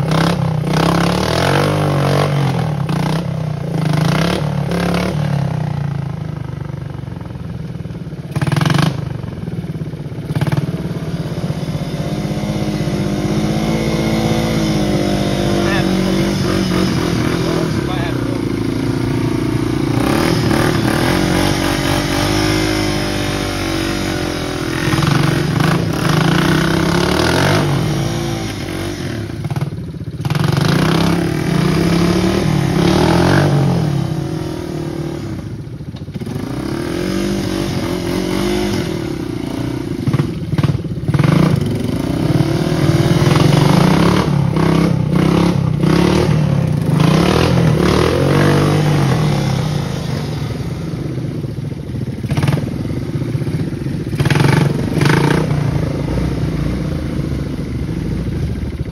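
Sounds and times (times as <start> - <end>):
quad bike engines revving: 0.0 - 58.9.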